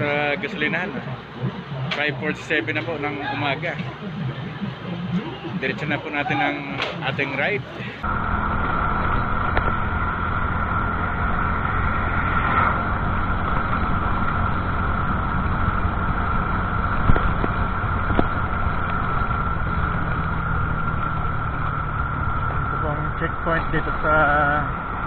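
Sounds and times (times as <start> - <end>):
motorcycle engine running: 0.0 - 25.0
steady high whine: 0.0 - 25.0.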